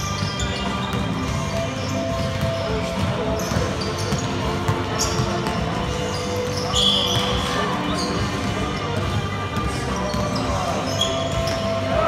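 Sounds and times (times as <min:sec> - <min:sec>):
basketball bouncing on court: 0:00.0 - 0:12.0
sneaker squeaks: 0:00.0 - 0:12.0.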